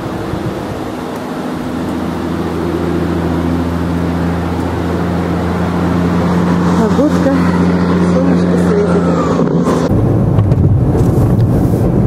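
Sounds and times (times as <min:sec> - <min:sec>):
car engine and road noise hum: 0:00.0 - 0:12.0.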